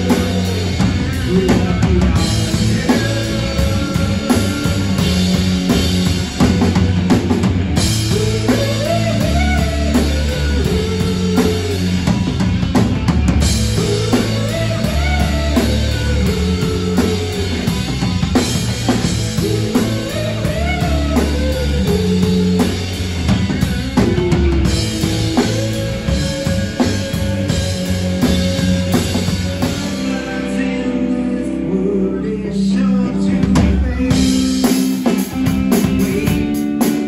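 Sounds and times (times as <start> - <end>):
drum kit: 0.0 - 31.0, 33.2 - 37.0
bass: 0.0 - 37.0
electric guitar: 0.0 - 37.0.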